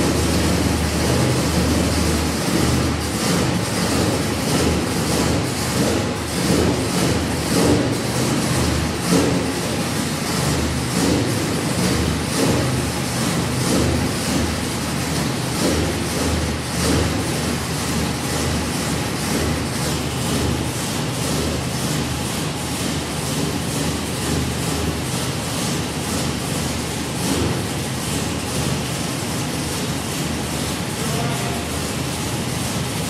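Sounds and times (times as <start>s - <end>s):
car engine low rumble: 0.0s - 33.0s.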